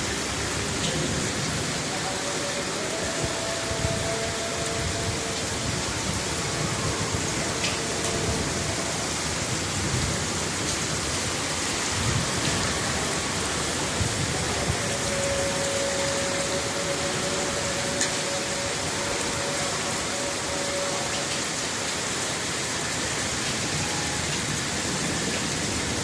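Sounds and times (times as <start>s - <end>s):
torrential rain pouring: 0.0s - 26.0s.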